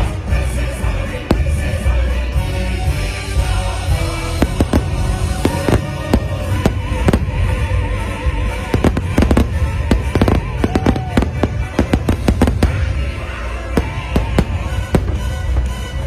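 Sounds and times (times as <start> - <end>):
music playing: 0.0 - 16.0
fireworks bangs: 1.2 - 2.1, 3.8 - 16.0.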